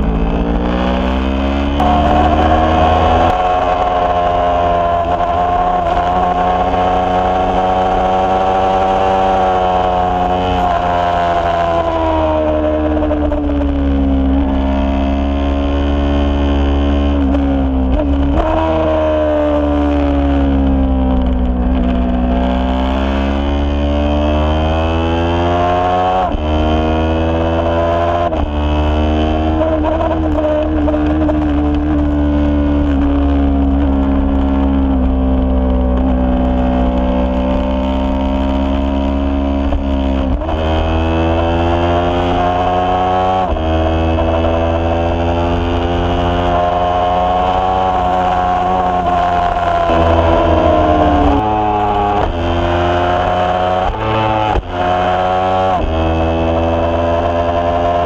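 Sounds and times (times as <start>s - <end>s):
racing motorcycle engine high revs: 0.0s - 58.0s.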